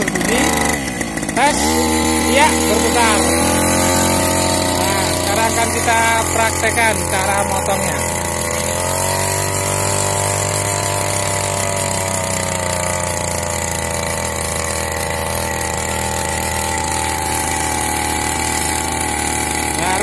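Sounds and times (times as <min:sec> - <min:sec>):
blade cutting through grass: 0:00.0 - 0:20.0
brush cutter engine revving: 0:00.0 - 0:20.0.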